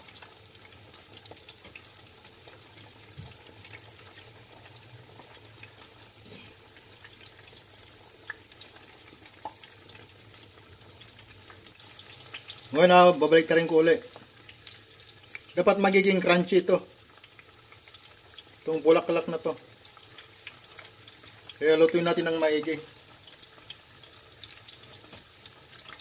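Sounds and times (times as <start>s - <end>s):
food frying in oil: 0.0s - 26.0s.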